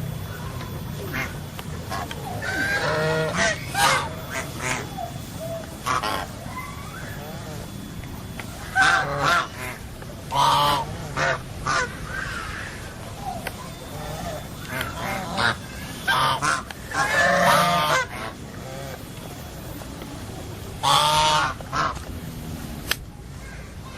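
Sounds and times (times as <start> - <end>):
birds honking calls: 0.0 - 23.9.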